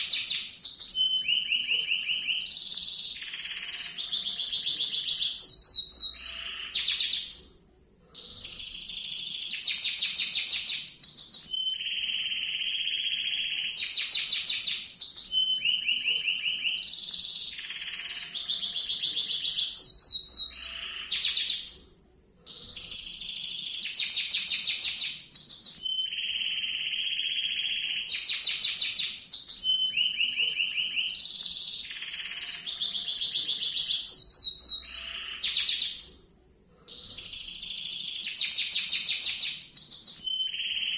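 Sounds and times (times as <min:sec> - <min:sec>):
canary singing trills: 0:00.0 - 0:07.4, 0:08.2 - 0:21.8, 0:22.5 - 0:36.1, 0:36.9 - 0:40.9.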